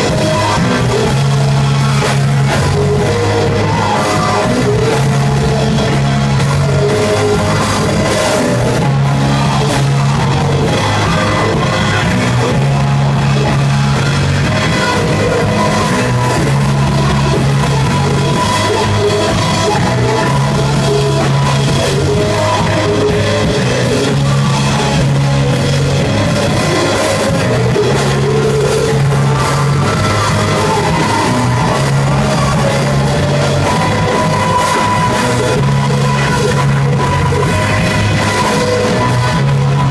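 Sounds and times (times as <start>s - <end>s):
drums: 0.0s - 39.9s
live rock band playing: 0.0s - 39.9s.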